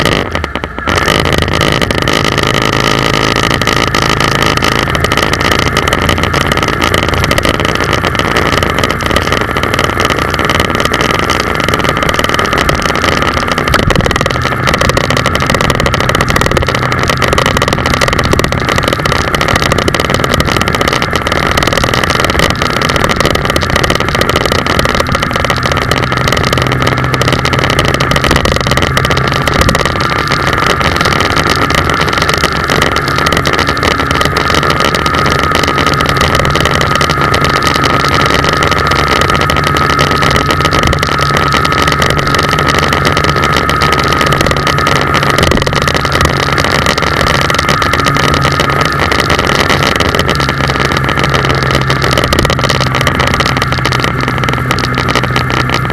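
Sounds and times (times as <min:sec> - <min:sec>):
steady whine: 0:00.0 - 0:55.9
vehicle engine and road noise: 0:00.0 - 0:55.9.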